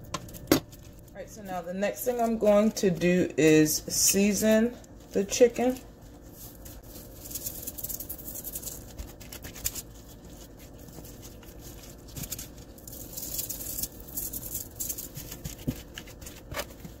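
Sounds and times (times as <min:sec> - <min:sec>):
seasoning granules pattering: 0:01.9 - 0:16.2.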